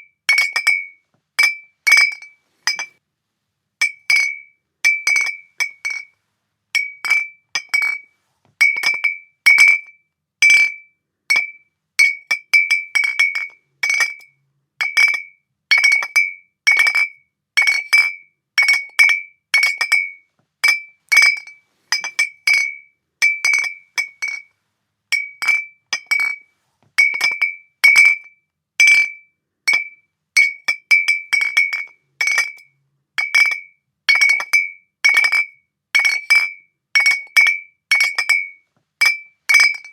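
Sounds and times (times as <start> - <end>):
glass bottles clinking: 0.3 - 3.0, 3.8 - 6.1, 6.8 - 8.0, 8.6 - 9.8, 10.6 - 17.1, 17.7 - 24.5, 25.1 - 26.4, 27.0 - 28.2, 28.8 - 32.6, 33.2 - 39.9.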